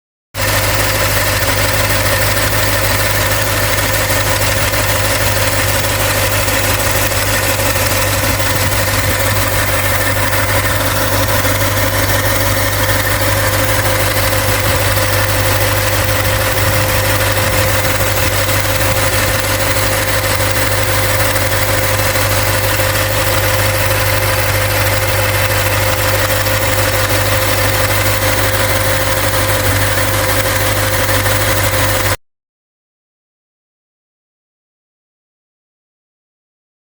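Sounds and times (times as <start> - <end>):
car engine idling: 0.4 - 32.2
steady whine: 0.4 - 32.2.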